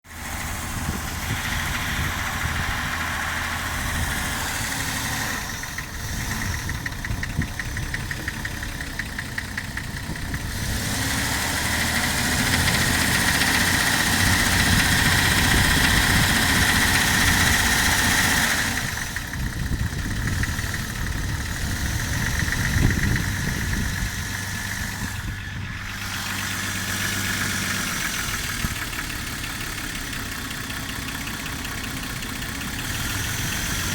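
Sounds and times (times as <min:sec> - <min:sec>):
car engine idling with knock: 0:00.0 - 0:33.9.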